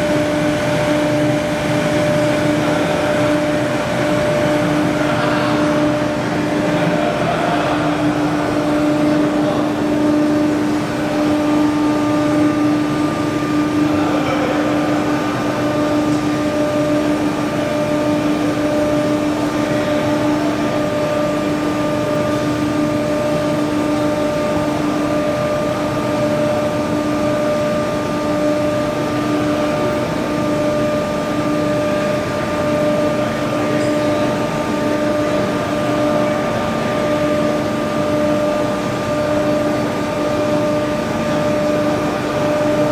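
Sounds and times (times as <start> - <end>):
tube bending machine humming: 0.0 - 42.9.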